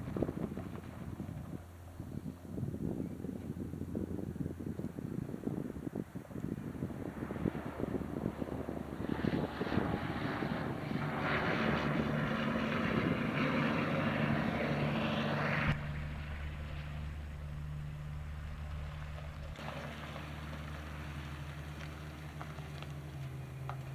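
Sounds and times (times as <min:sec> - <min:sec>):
truck engine running: 0:00.0 - 0:23.9.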